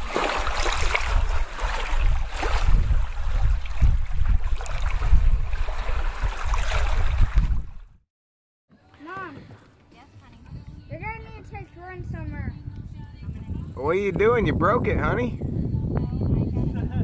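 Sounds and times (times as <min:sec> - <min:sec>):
wind: 0:00.0 - 0:08.0, 0:08.7 - 0:17.0.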